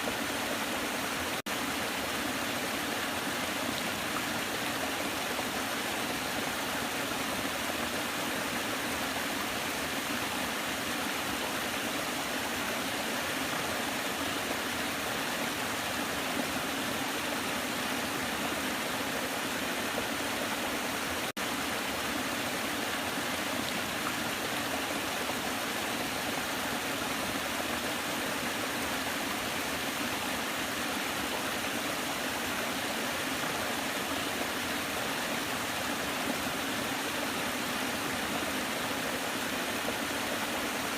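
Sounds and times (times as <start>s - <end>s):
waterfall rushing and splashing: 0.0s - 40.9s.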